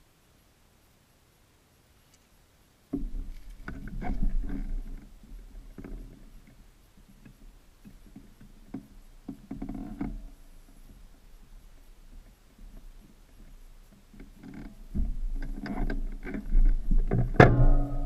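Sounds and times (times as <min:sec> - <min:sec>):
knocks and creaks of motorcycle: 0:02.9 - 0:18.0.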